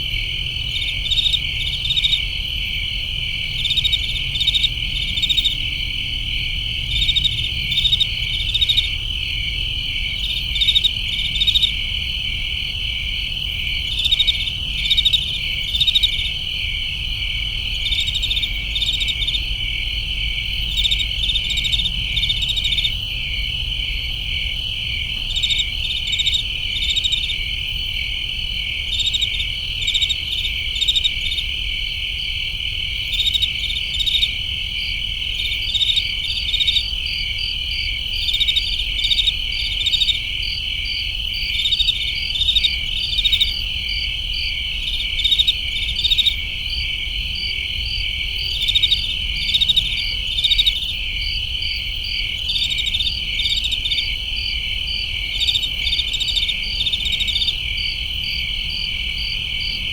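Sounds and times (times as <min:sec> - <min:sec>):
crickets trilling: 0:00.0 - 0:59.9
pulsed cricket chirps: 0:00.0 - 0:59.9.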